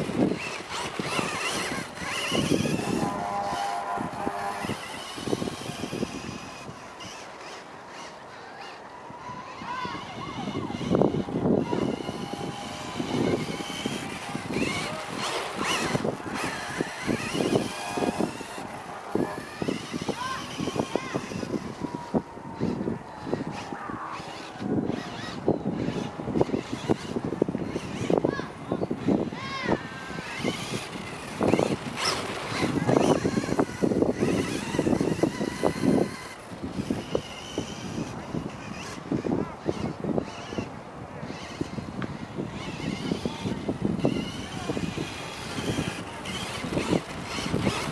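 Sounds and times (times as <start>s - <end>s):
rough running noise: 0.0s - 40.6s, 41.3s - 47.9s
rc car motor whining: 0.0s - 47.9s.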